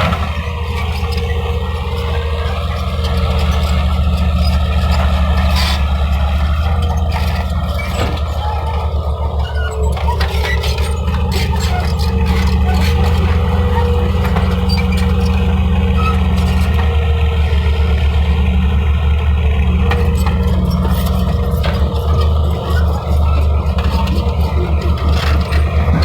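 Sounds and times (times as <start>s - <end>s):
diesel construction machinery running: 0.0s - 26.0s.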